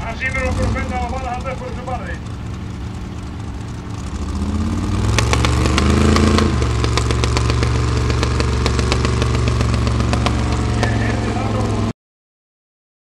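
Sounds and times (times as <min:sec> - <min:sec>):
buggy engine revving: 0:00.0 - 0:11.9.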